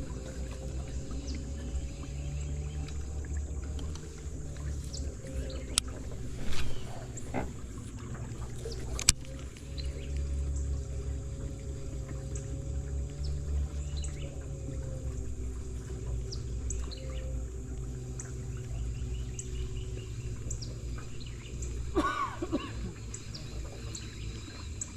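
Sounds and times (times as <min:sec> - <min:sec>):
river water splashing: 0:00.0 - 0:24.9
steady low hum: 0:00.0 - 0:24.9.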